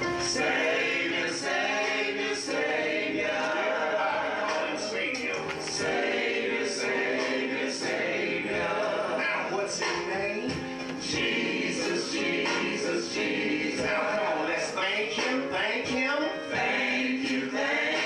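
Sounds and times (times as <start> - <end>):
congregation and choir singing a hymn: 0.0 - 9.9, 10.8 - 15.3, 16.5 - 18.0.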